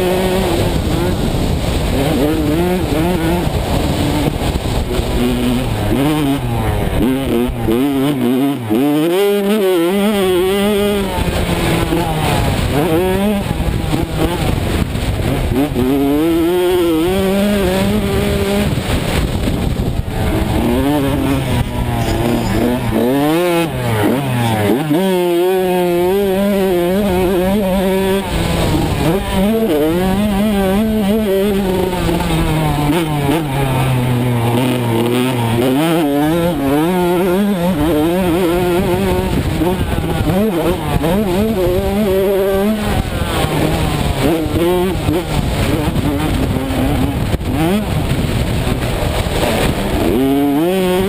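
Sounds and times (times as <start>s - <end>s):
motocross bike engine revving: 0.0s - 51.0s
wind rushing over microphone: 0.0s - 51.0s.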